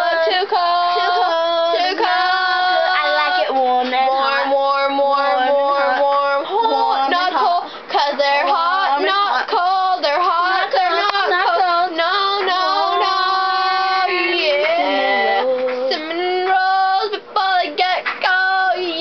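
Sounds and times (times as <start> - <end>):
young voices singing: 0.0 - 19.0.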